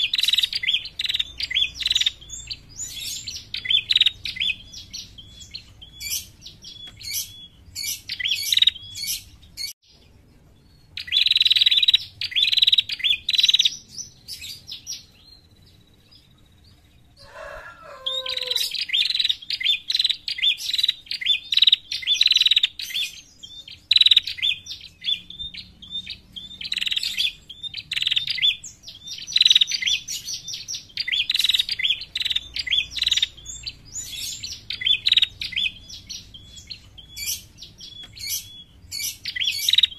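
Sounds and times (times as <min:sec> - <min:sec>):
bird rapid high chirps: 0:00.0 - 0:16.6, 0:17.2 - 0:39.9.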